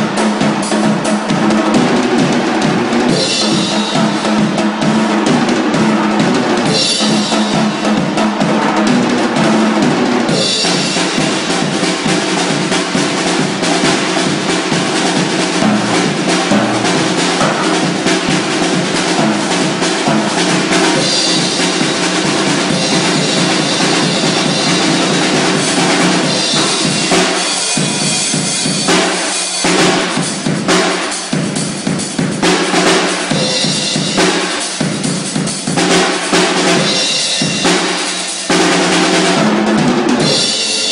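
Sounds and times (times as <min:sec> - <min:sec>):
drum kit fills: 0:00.0 - 0:40.9.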